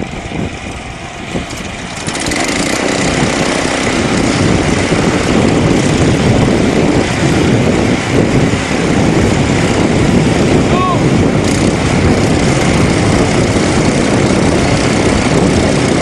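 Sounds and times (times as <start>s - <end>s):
small tractor engines running: 0.0s - 16.0s.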